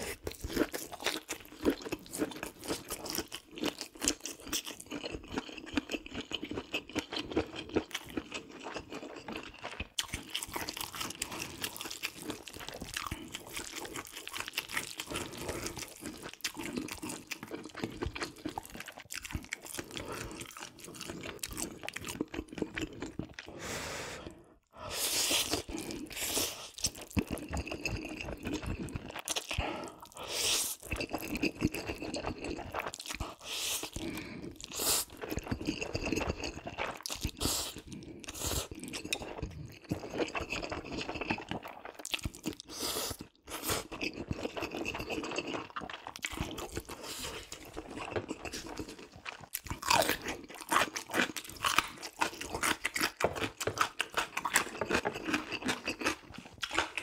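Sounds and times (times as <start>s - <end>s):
crunchy chewing: 0.0s - 23.5s, 30.7s - 57.0s.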